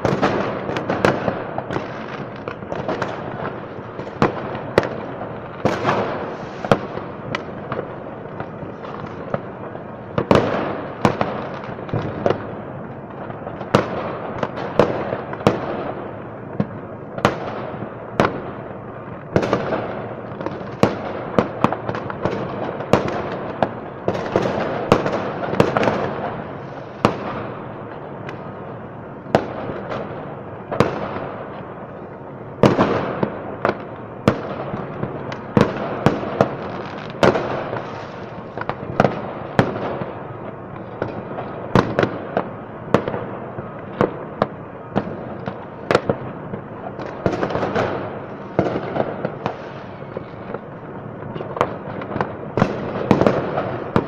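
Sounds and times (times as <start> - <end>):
distant fireworks crackle: 0.0 - 54.0
fireworks bangs: 0.0 - 54.0.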